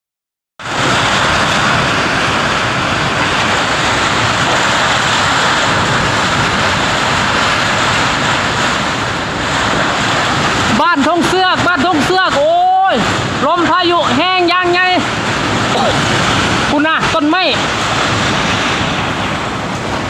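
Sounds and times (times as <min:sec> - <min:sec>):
storm wind blowing hard: 0:00.6 - 0:20.0
wind buffeting microphone: 0:00.6 - 0:20.0.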